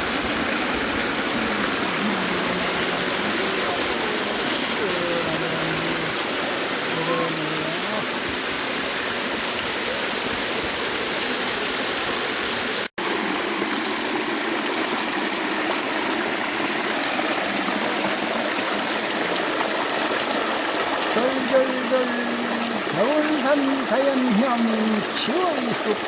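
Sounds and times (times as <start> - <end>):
stream rushing over small falls: 0.0 - 26.0.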